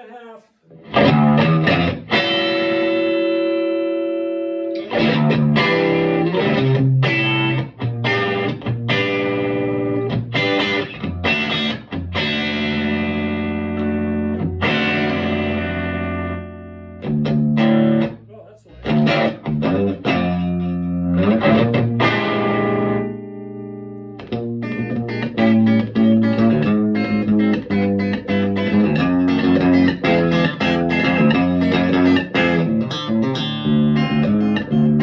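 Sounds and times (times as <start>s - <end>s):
electric guitar strummed chords: 0.7s - 35.0s.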